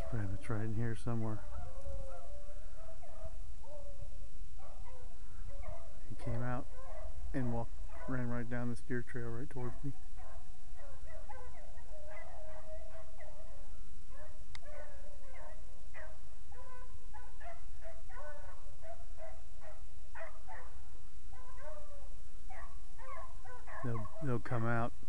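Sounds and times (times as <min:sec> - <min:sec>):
dogs baying: 0:00.0 - 0:04.0, 0:04.6 - 0:08.7, 0:09.6 - 0:20.8, 0:21.4 - 0:24.6.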